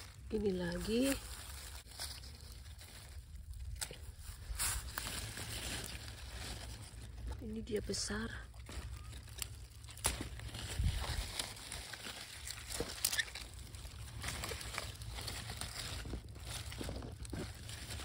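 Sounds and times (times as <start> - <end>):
plants rustling: 0.0 - 18.0.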